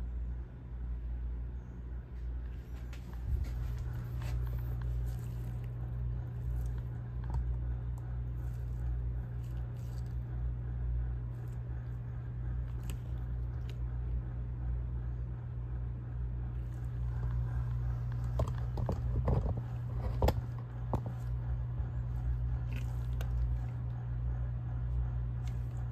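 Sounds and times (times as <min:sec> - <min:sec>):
low machine hum: 0:00.0 - 0:25.9.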